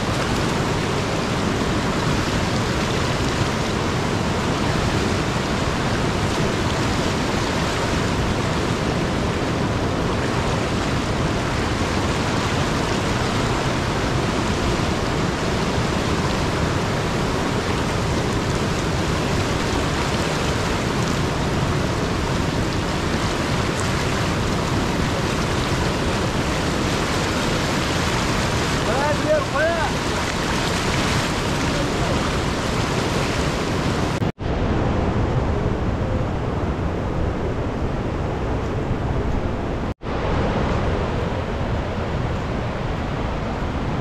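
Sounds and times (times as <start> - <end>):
river water rushing: 0.0 - 35.2, 36.7 - 44.0.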